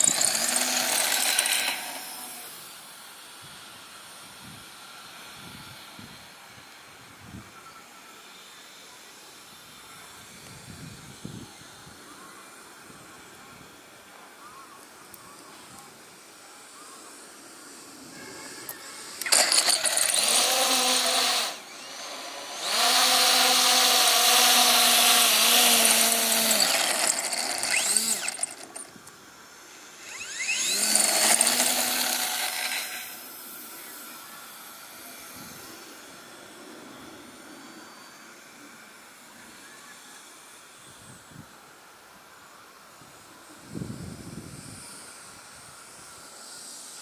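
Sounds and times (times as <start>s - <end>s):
electric motor and propeller whine: 0.0s - 47.0s.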